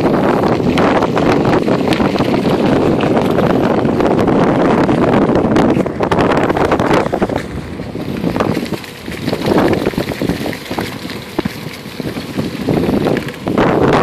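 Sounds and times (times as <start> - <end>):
tyres rolling over leafy path: 0.0 - 14.0
wind buffeting microphone: 0.0 - 14.0.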